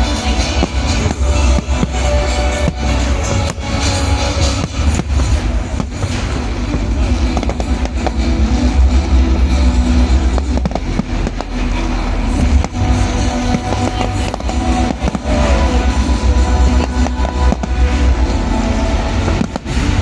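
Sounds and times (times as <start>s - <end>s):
fireworks bangs and crackles: 0.0s - 20.0s
loud music with heavy bass: 0.0s - 20.0s.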